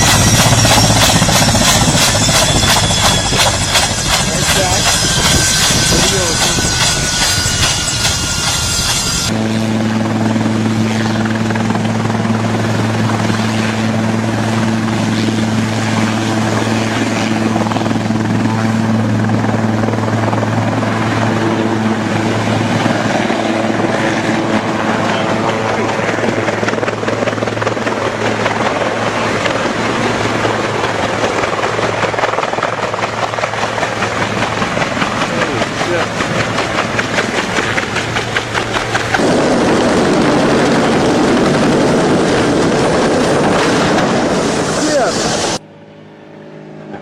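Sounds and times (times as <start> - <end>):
helicopter low hum: 0.0 - 47.0
helicopter rushing noise: 0.0 - 47.0.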